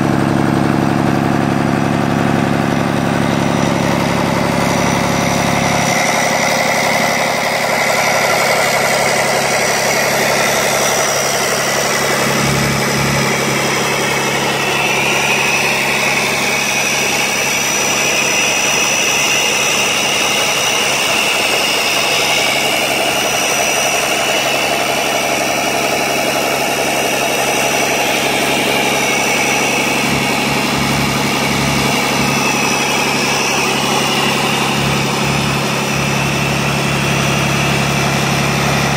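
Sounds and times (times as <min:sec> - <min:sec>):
diesel engine idling: 0:00.0 - 0:38.9
high whine: 0:00.0 - 0:38.9.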